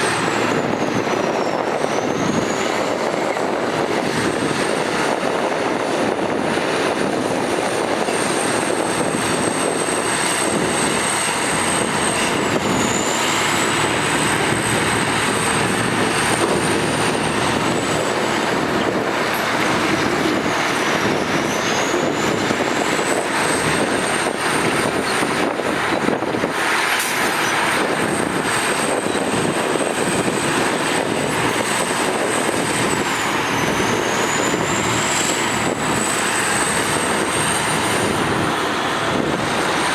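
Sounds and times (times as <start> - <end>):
bulldozers working soil: 0.0 - 39.9.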